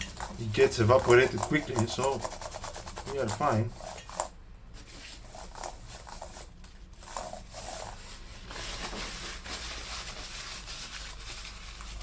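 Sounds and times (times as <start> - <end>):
scrubbing on laptop keyboard: 0.0 - 12.0.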